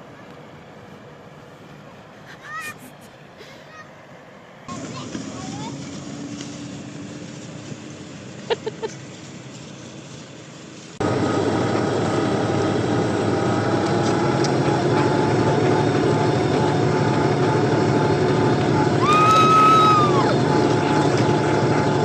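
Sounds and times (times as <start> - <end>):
vehicle engine running: 4.1 - 22.0.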